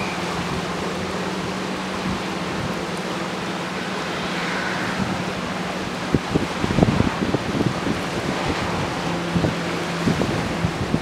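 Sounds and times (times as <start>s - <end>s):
wind over open water: 0.0s - 11.0s.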